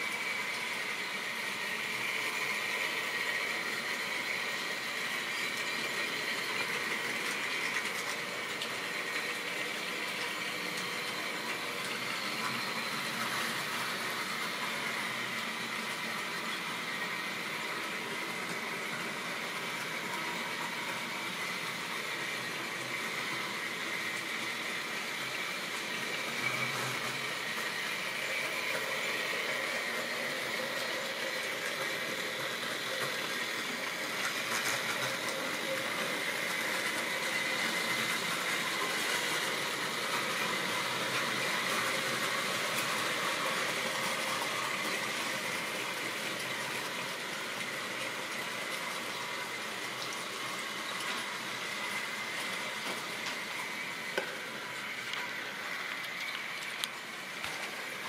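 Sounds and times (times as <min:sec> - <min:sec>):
model train wheels on track: 0:00.0 - 0:58.0
small electric motor whine: 0:00.0 - 0:58.0.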